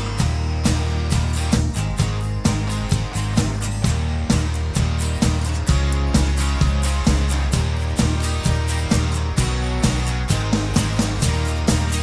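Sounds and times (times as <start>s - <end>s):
guitar music with steady beat: 0.0s - 12.0s
sustained bass notes: 0.0s - 12.0s.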